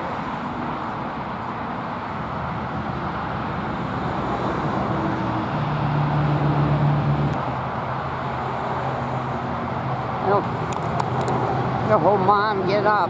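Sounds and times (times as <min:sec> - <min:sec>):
motor vehicle engine hum: 0:00.0 - 0:13.0.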